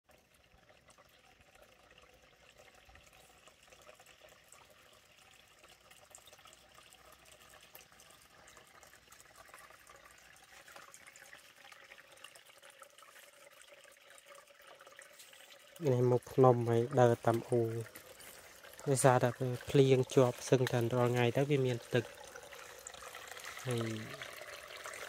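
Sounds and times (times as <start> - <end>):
trickle of running water: 0.0 - 25.0.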